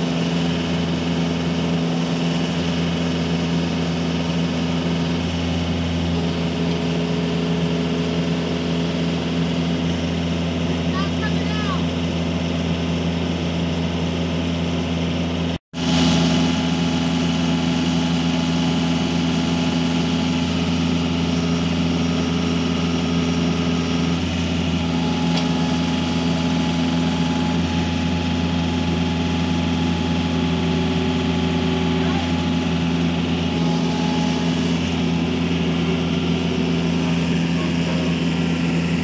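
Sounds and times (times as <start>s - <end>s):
diesel engine running: 0.0s - 39.0s
hydraulic auger drilling ground: 0.0s - 39.0s.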